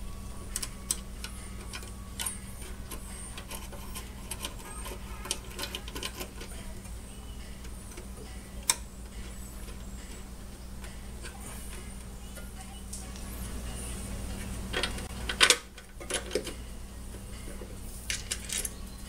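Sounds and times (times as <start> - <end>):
steady low hum: 0.0 - 19.0
small metal parts and tools clicking: 0.5 - 12.6, 14.7 - 18.9.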